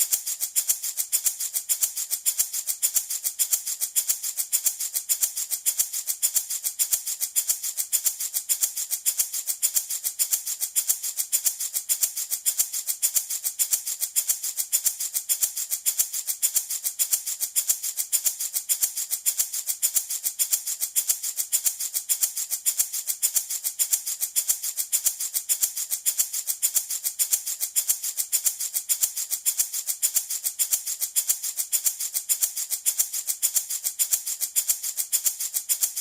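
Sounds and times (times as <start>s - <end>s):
baby rattle shaken: 0.0s - 36.0s.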